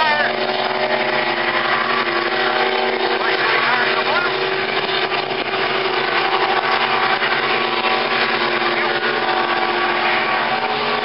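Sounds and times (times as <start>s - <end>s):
racing boat engines droning: 0.0s - 11.0s.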